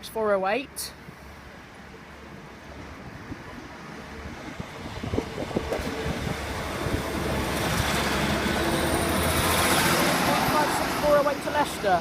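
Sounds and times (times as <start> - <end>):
diesel train running: 1.4 - 12.0.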